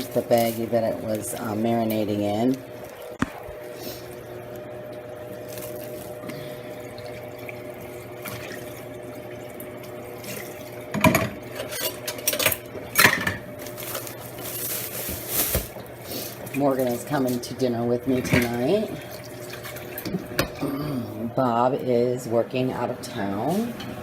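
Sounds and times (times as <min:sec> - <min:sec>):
exhaust fan hum: 0:00.0 - 0:24.0.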